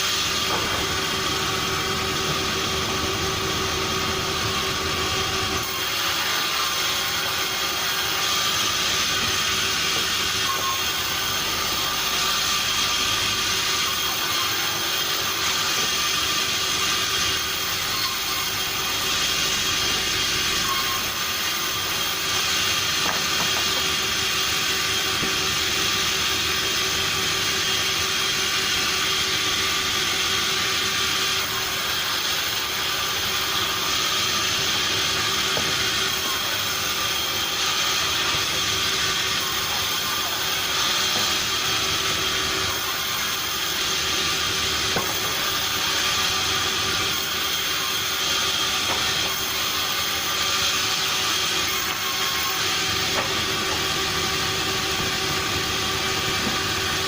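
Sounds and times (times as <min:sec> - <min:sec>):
sawmill machinery humming and hissing: 0:00.0 - 0:57.0.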